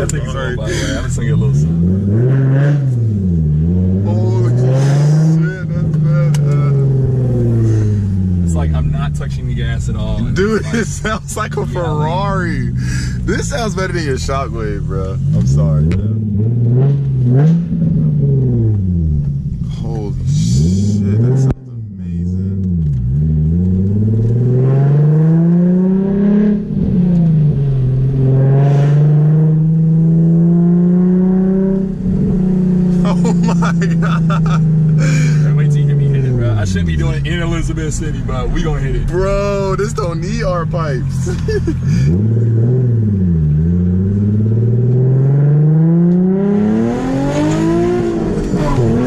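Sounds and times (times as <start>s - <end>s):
loud car engine pulling under throttle: 0.0s - 49.0s.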